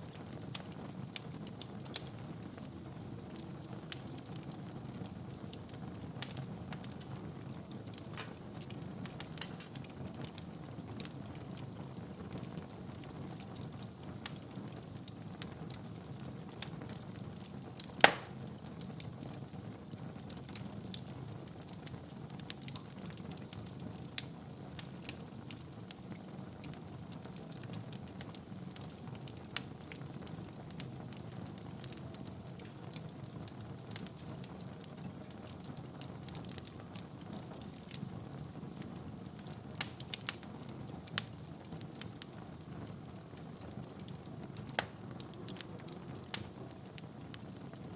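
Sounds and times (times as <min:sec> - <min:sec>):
fire crackling: 0:00.0 - 0:47.9
fire popping: 0:00.0 - 0:47.9
low rumble of flames: 0:00.0 - 0:47.9.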